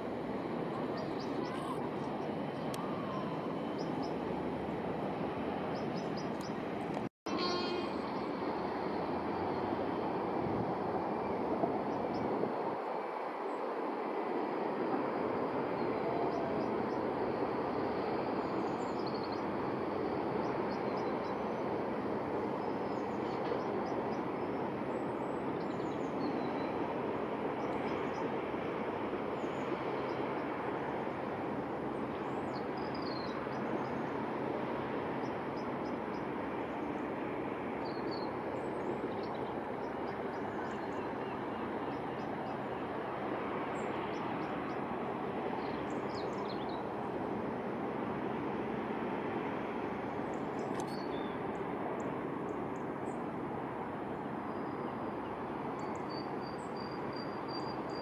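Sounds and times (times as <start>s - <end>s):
outdoor background rush: 0.0s - 58.0s.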